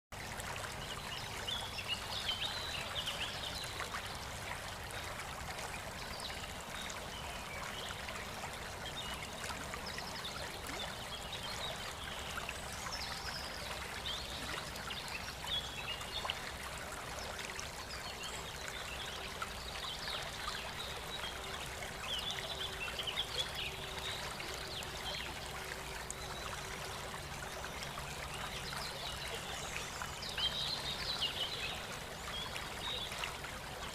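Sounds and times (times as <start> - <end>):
water trickling: 0.2 - 33.9.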